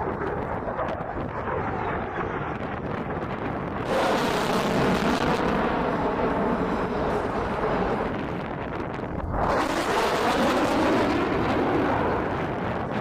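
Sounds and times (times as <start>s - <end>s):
jet engine roaring: 0.0s - 13.0s.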